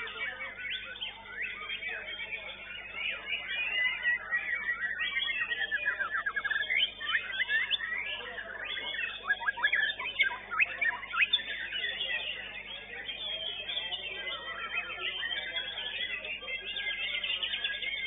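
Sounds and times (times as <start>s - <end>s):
birds singing: 0.0s - 18.0s.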